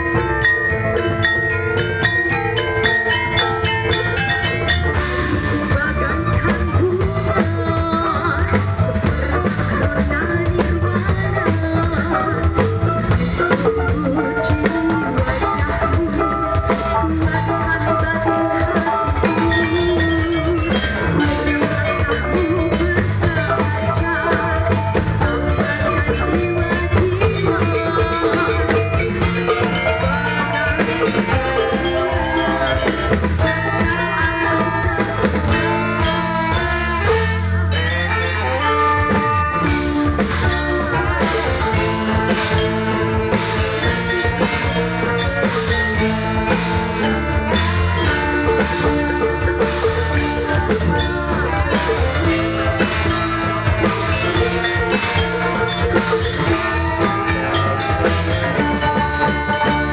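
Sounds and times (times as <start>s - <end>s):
drums steady beat: 0.0s - 59.9s
live band music: 0.0s - 59.9s.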